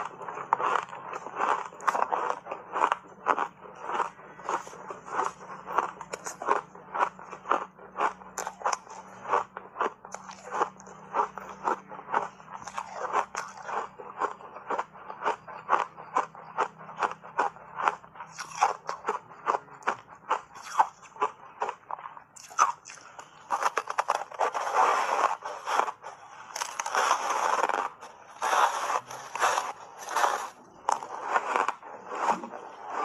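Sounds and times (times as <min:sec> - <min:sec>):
ice crunching between teeth: 0:00.0 - 0:33.0.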